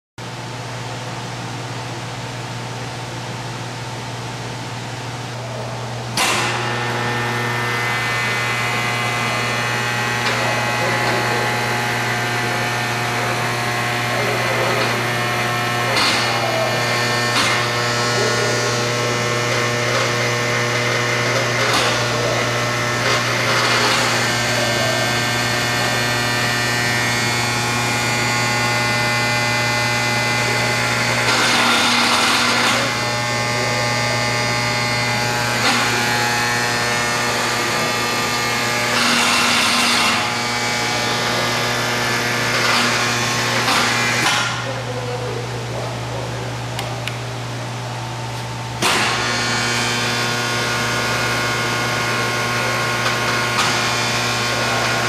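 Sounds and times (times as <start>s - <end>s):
lathe motor hum: 5.4s - 55.0s.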